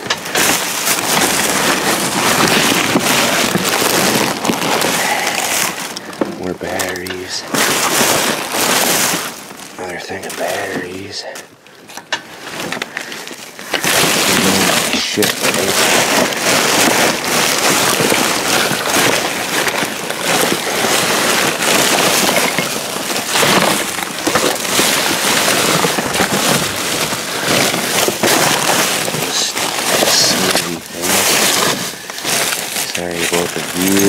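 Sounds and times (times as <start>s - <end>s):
plastic bags crinkling and tearing: 0.0s - 34.0s.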